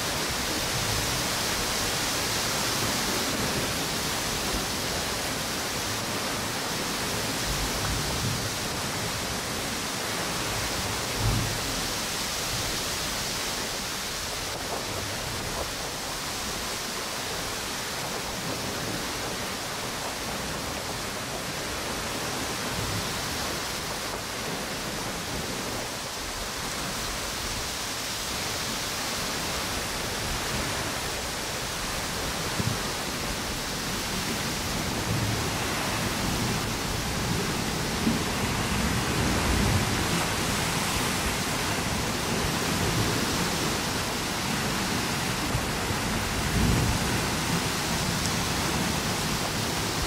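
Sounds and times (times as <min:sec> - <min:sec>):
ocean waves: 0:00.0 - 0:50.0
wind through palm trees: 0:00.0 - 0:50.0.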